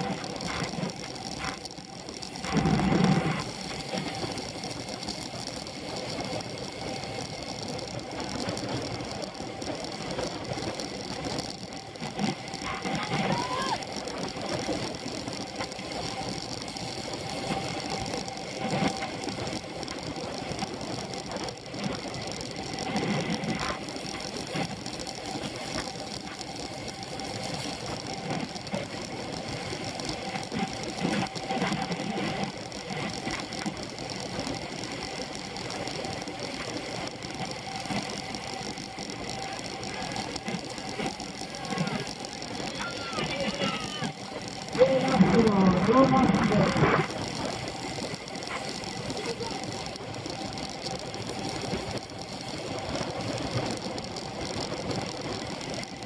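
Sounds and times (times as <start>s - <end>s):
bicycle drivetrain whir: 0.0s - 56.0s
rushing noise: 0.0s - 56.0s.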